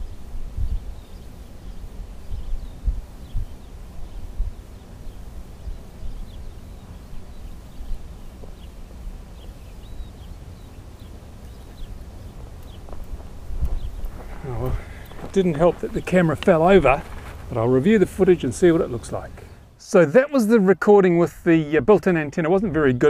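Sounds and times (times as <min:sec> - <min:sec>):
wind buffeting microphone: 0:00.0 - 0:19.7
bird chirps: 0:00.0 - 0:19.9.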